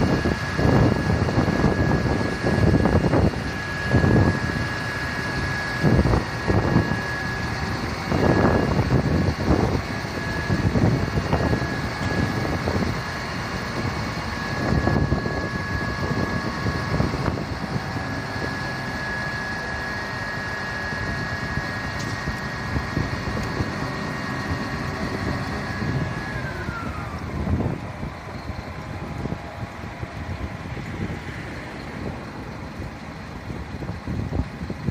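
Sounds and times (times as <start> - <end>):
vehicle high whine: 0.0 - 34.9
wind gusts on microphone: 0.0 - 34.9.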